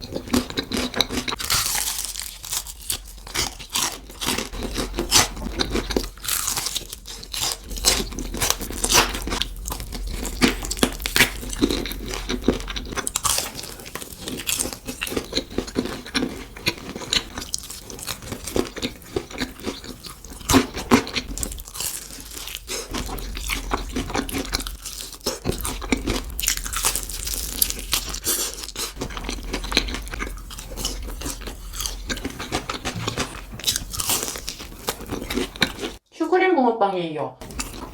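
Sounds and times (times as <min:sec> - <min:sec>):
chewing crispy food: 0:00.0 - 0:36.0, 0:37.4 - 0:37.9.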